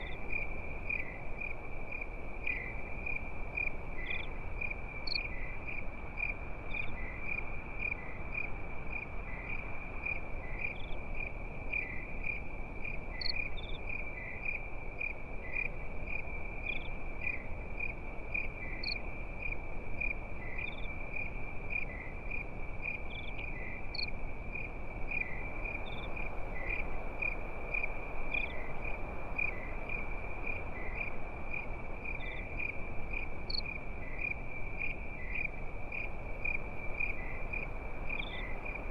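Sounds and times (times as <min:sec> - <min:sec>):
crickets chirping: 0:00.0 - 0:38.9
low background noise: 0:00.0 - 0:38.9.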